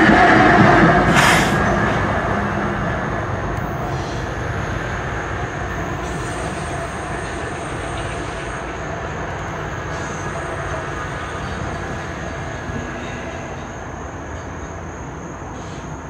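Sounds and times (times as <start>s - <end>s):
locomotive engines and wheels rumbling: 0.0s - 16.0s.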